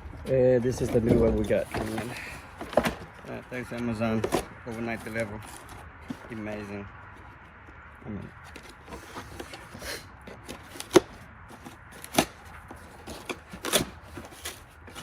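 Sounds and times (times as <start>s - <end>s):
hands rustling and scraping objects: 0.0s - 15.0s.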